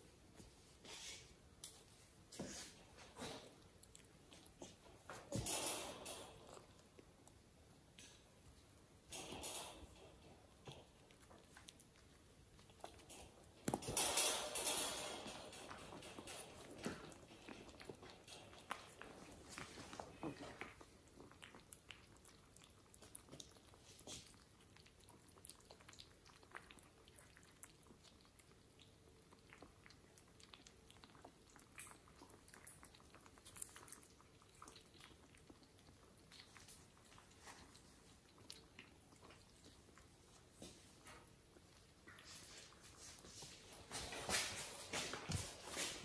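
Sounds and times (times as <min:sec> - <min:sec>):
kittens licking and chewing: 0:00.0 - 0:46.0.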